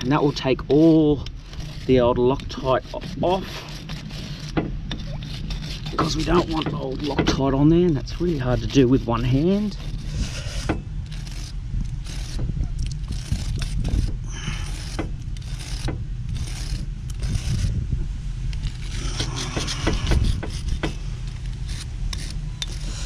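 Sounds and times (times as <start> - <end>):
wire brush scraping metal: 0.0 - 17.8, 18.4 - 23.0.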